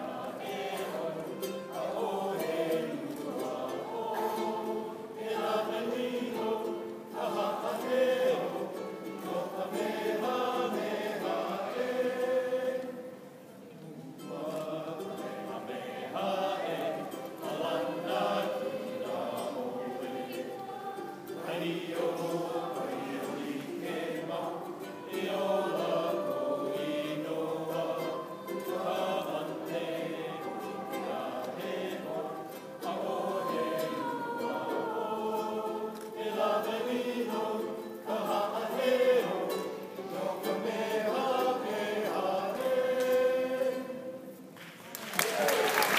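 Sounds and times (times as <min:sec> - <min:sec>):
mixed choir singing: 0:00.0 - 0:44.6
ukulele: 0:00.0 - 0:45.9.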